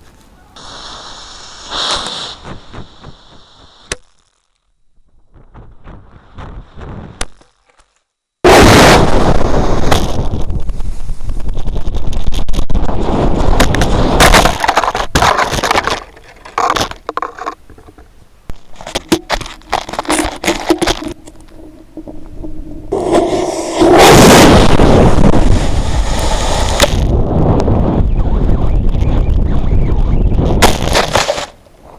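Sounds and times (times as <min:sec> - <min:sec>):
sparse fireworks pops: 0:00.6 - 0:29.4, 0:30.3 - 0:31.6
fireworks rumbling and cracking: 0:00.7 - 0:03.9, 0:05.0 - 0:07.4, 0:08.5 - 0:16.0, 0:18.5 - 0:31.5.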